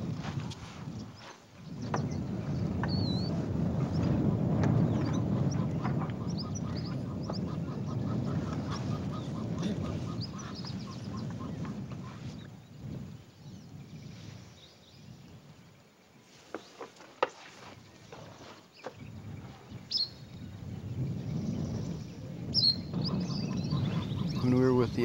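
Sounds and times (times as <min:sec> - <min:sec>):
birds calling: 0:00.0 - 0:15.3, 0:16.4 - 0:25.0.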